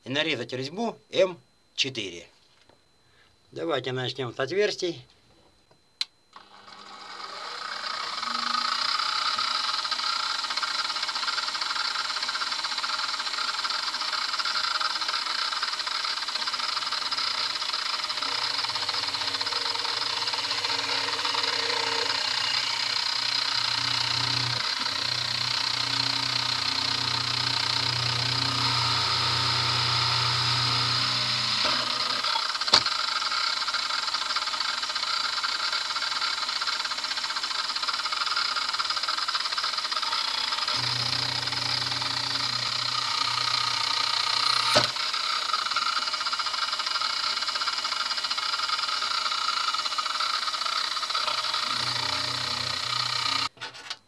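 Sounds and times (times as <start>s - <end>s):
drill press motor drilling: 6.3s - 54.0s.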